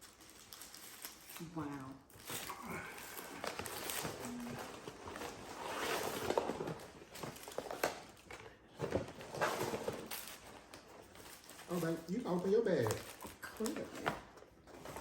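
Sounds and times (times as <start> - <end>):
paper bags rustling and crinkling: 0.0 - 15.0.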